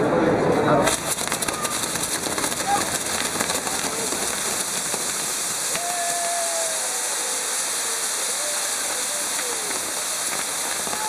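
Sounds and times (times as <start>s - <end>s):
fireworks fountains hissing: 0.7s - 11.0s
fireworks crackling: 0.8s - 11.0s
firework whistle: 0.9s - 11.0s.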